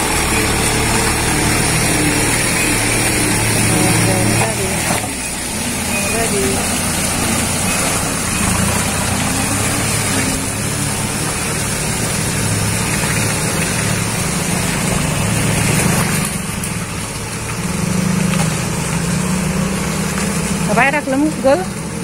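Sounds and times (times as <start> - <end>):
truck engine running: 0.0 - 22.0
water gushing and splashing: 0.0 - 22.0.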